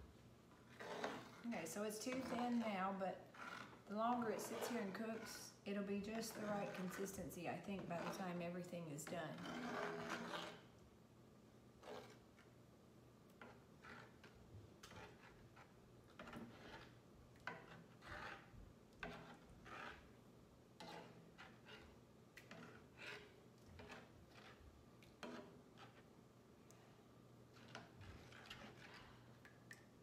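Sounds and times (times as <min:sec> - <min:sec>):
utensil scraping a skillet: 0:00.5 - 0:10.8, 0:11.8 - 0:12.6, 0:13.4 - 0:29.5.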